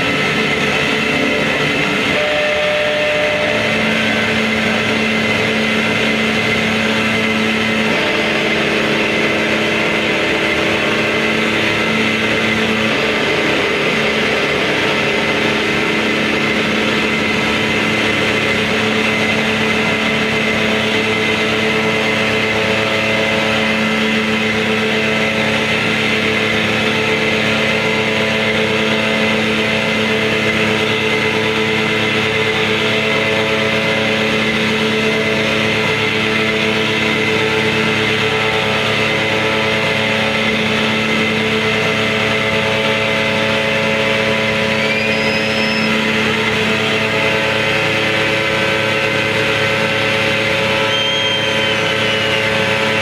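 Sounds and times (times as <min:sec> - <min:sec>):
noise music drone: 0:00.0 - 0:53.0.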